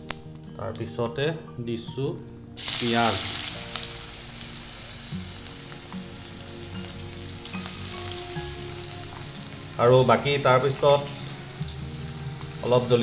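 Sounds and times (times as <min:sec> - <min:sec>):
onion sizzling in hot oil: 0:02.6 - 0:13.0.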